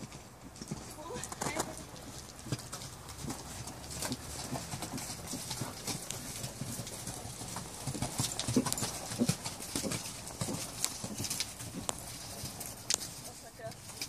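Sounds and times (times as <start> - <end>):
hoofbeats on sand: 0.0 - 14.0.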